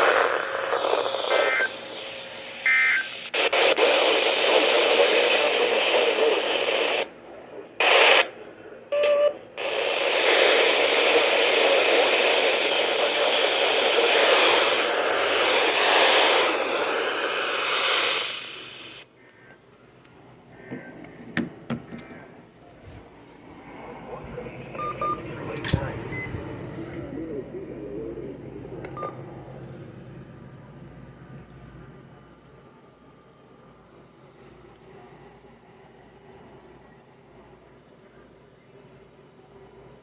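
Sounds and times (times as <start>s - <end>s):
radio static hiss: 0.0s - 21.3s, 22.1s - 33.1s.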